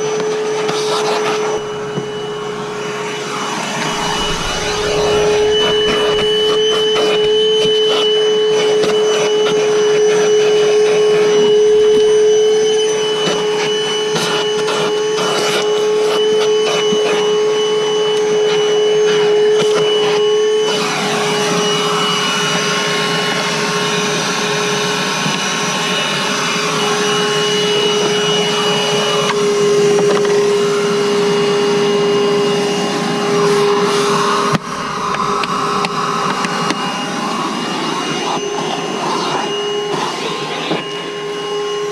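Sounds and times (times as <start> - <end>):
wet dry vacuum running: 0.0 - 41.9.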